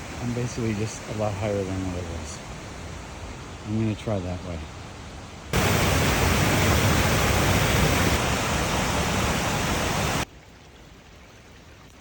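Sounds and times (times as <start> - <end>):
rush of falling water: 0.0 - 12.0.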